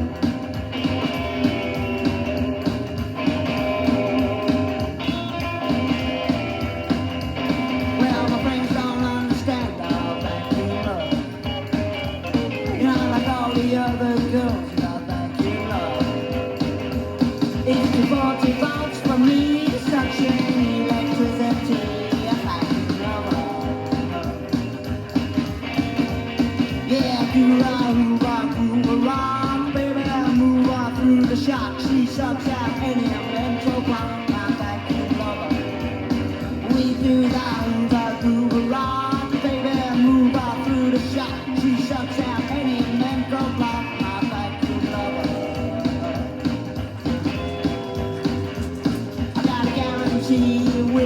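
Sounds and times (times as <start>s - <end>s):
bass: 0.0s - 51.0s
drums with steady beat: 0.0s - 51.0s
electric guitar: 0.0s - 51.0s
rock song instrumental from vinyl: 0.0s - 51.0s.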